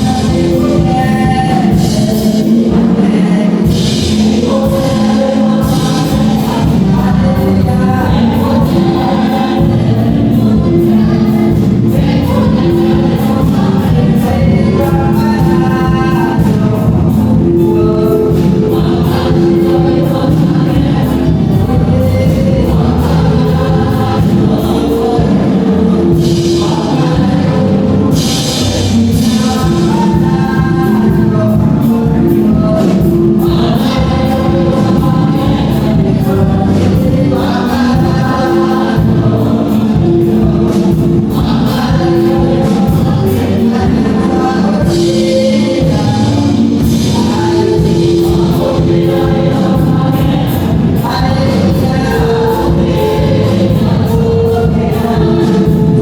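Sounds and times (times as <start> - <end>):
gospel choir singing: 0.0 - 56.0
instrumental accompaniment with beat: 0.0 - 56.0.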